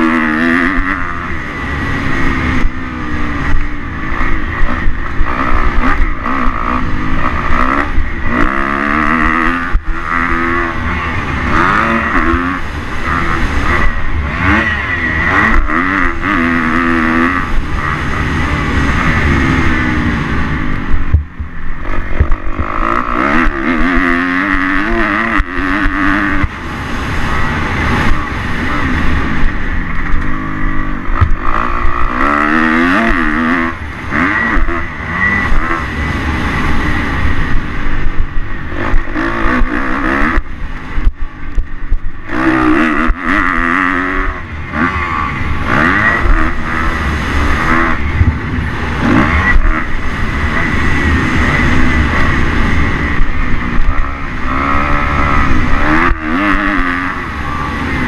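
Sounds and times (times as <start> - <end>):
motocross bike engine revving: 0.0 - 58.0
wind rumble on microphone: 0.0 - 58.0.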